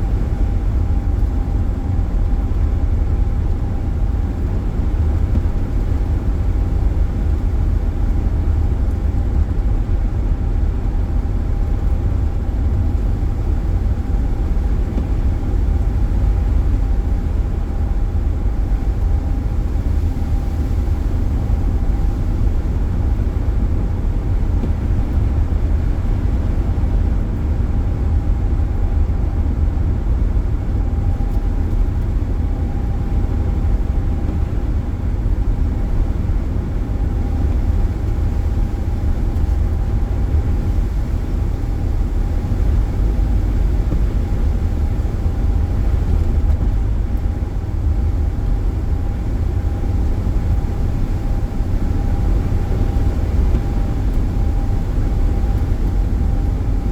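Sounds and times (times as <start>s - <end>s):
road and engine rumble in car: 0.0s - 56.9s.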